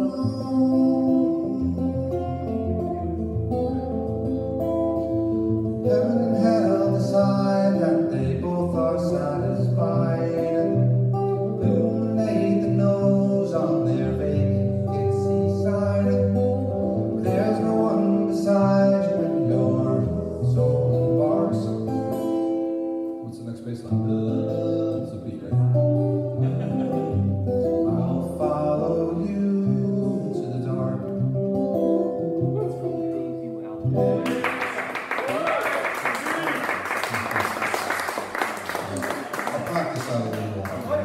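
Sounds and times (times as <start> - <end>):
solo guitar playing: 0.0 - 34.9.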